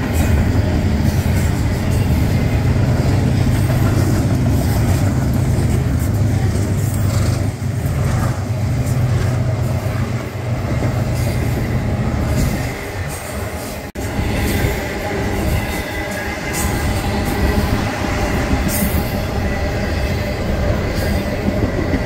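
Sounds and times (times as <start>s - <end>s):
freight train rumbling past: 0.0s - 22.0s
rail cars clattering: 0.0s - 22.0s.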